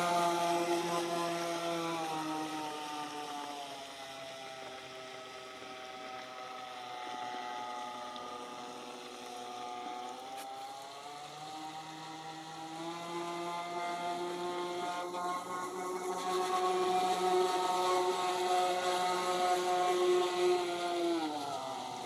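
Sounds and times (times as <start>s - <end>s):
model speedboat motor: 0.0s - 22.0s.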